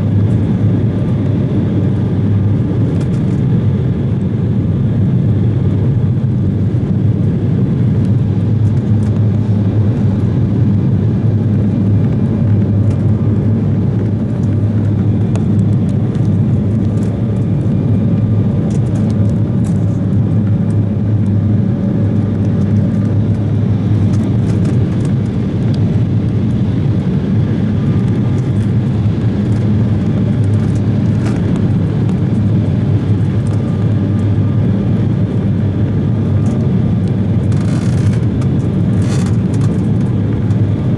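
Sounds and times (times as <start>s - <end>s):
jet engine and airflow roar: 0.0s - 40.9s.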